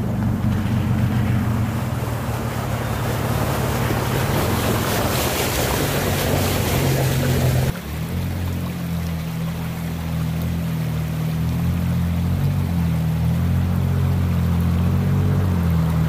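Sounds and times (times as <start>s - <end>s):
pickup truck engine running: 0.0s - 16.0s.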